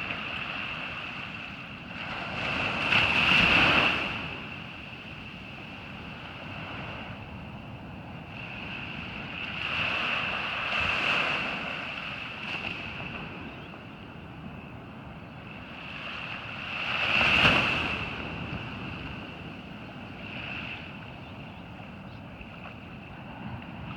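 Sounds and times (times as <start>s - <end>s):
ocean surf on beach: 0.0s - 23.9s.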